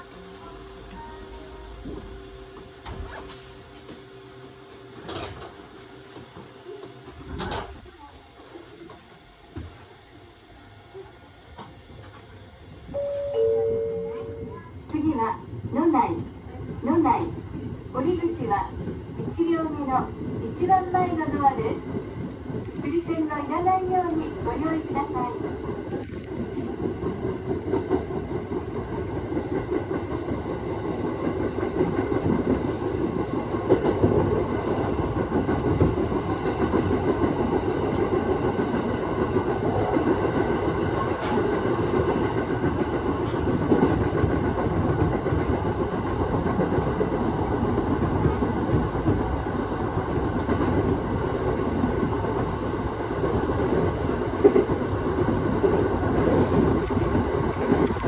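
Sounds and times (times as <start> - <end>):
train wheels rumbling on rails: 0.0 - 10.1, 10.9 - 58.0.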